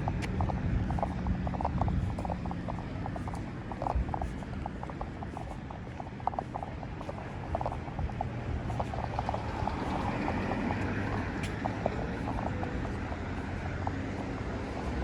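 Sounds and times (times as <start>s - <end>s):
light ticks and patters: 0.0s - 15.0s
traffic rumble: 0.0s - 15.0s.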